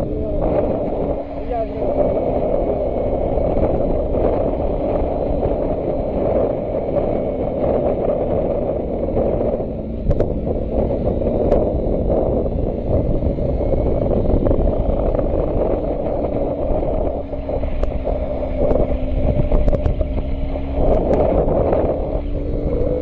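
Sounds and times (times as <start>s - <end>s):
motorcycle engine: 0.0s - 23.0s
wind rushing: 0.0s - 23.0s.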